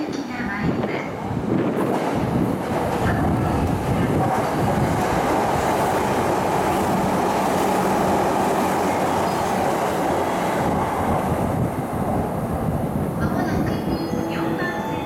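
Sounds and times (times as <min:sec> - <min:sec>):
train passing at speed: 0:00.7 - 0:15.0.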